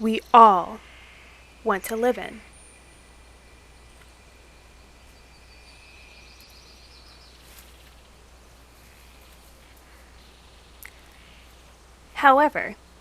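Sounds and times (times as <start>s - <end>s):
faint background hiss: 0.0s - 13.0s
low hum: 0.0s - 13.0s
thin high steady tone: 0.0s - 13.0s.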